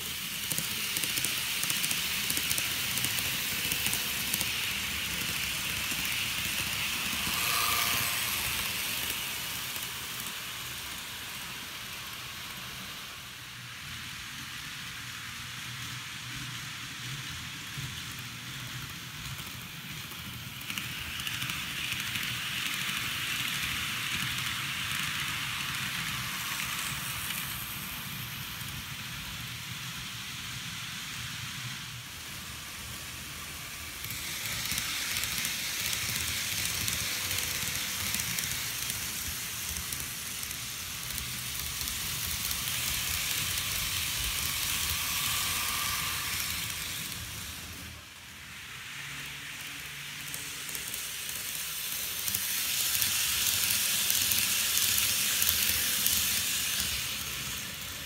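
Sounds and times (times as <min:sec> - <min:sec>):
model train wheels rattling: 0:00.0 - 0:12.6, 0:17.0 - 0:58.0.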